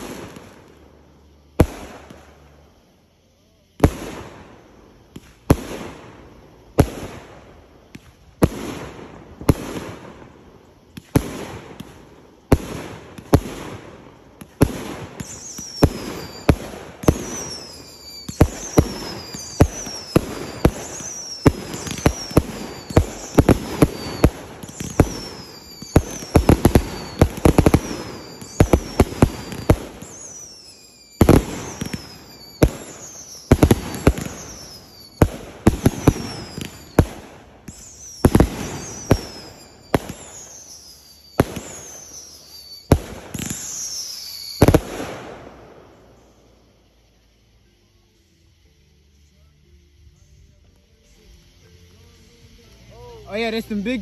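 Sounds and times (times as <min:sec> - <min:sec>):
firework bangs: 0:00.0 - 0:02.9, 0:03.5 - 0:46.6
falling firework whistle: 0:00.0 - 0:54.0.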